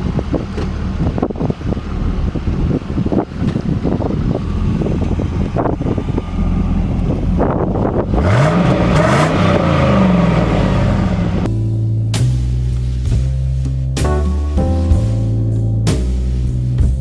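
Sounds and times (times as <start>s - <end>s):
car engine rumbling and accelerating: 0.0s - 17.0s.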